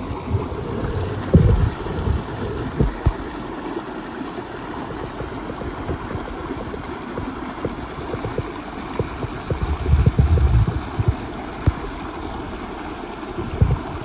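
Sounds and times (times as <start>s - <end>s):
stream rushing over boulders: 0.0s - 14.0s.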